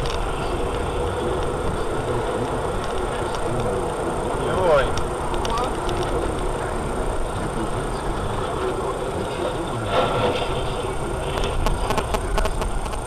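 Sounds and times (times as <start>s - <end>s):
burst of noise: 0.0s - 13.0s
vehicle engine and road noise: 0.0s - 13.0s.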